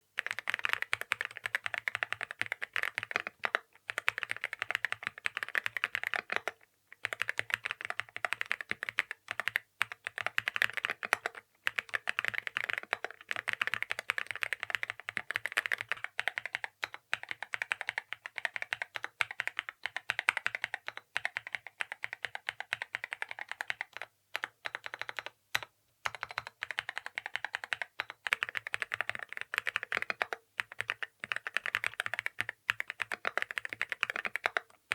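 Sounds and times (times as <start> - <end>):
mechanical keyboard typing: 0.2 - 34.9.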